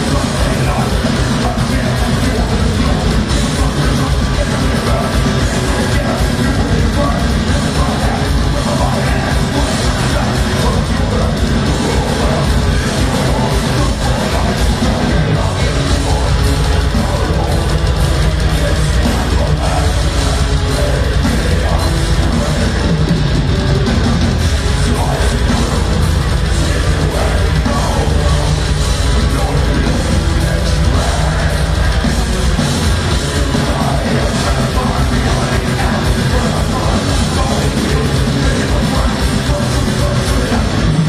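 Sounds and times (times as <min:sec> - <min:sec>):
distorted guitars and bass: 0:00.0 - 0:41.0
fast dense drumming: 0:00.0 - 0:41.0
harsh shouted vocals: 0:00.0 - 0:41.0.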